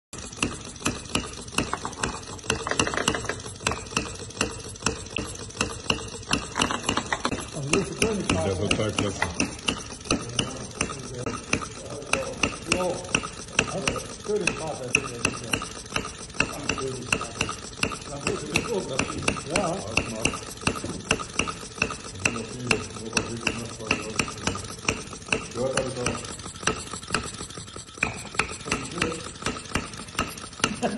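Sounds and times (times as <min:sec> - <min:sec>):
light mechanical clatter: 0:00.2 - 0:30.9
small gas engine popping: 0:00.2 - 0:30.9.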